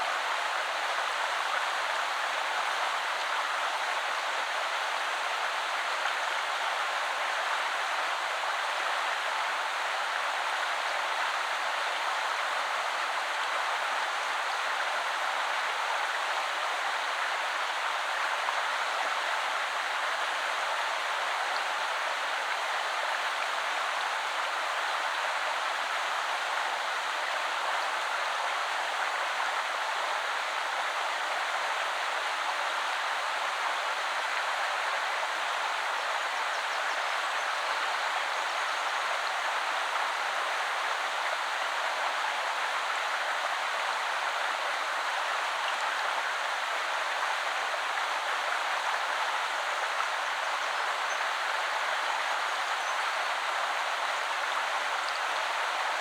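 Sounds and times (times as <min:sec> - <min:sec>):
river flowing over stones: 0:00.2 - 0:56.0.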